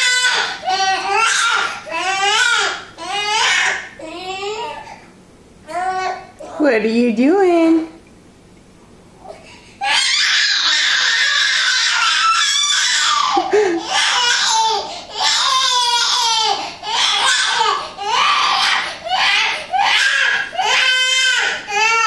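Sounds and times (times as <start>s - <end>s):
infant crying: 0.0s - 5.0s, 9.2s - 22.0s.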